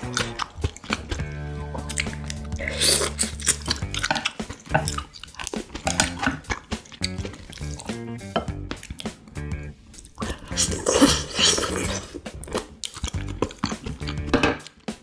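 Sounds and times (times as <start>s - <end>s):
background music: 0.0s - 15.0s
wet chewing and smacking: 0.0s - 15.0s.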